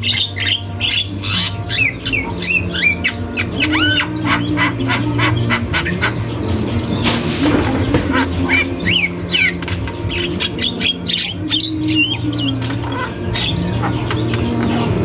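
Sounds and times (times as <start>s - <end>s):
bird whistling: 0.0s - 15.0s
myna squawking and chattering: 0.0s - 15.0s.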